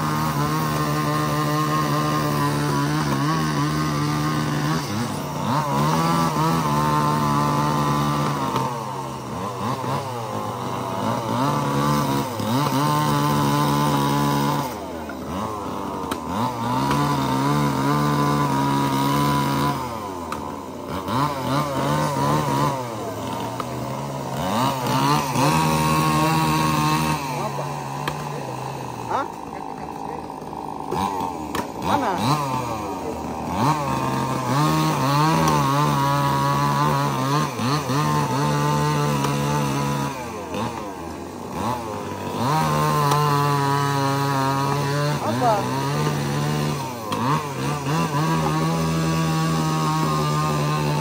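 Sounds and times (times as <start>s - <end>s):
chainsaw cutting logs: 0.0s - 51.0s.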